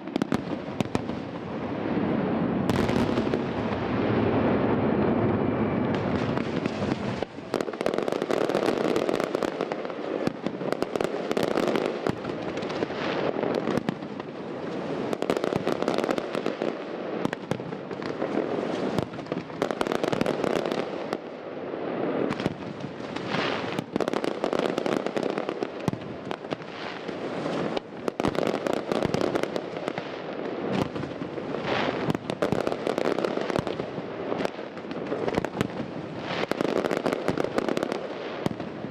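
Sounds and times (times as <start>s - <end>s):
fireworks popping and crackling: 0.0s - 38.9s.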